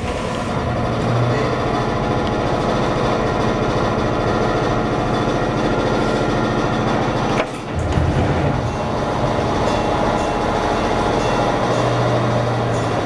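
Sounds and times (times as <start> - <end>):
electric railcar hum and running: 0.0 - 13.0.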